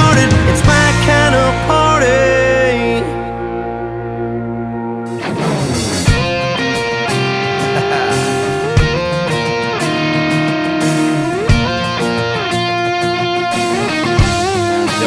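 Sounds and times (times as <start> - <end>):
electric guitar instrumental: 0.0 - 15.0.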